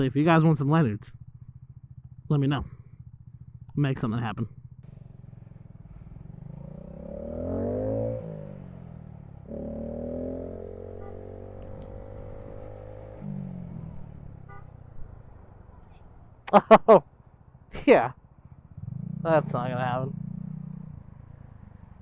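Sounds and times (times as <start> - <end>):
motorcycle engine accelerating: 0.6 - 15.8, 17.3 - 22.0.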